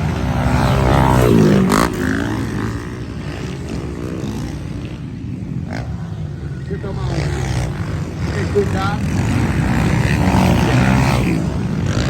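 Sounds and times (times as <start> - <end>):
dirt bike engines racing: 0.0 - 12.0
dirt bike passing close: 0.0 - 12.0.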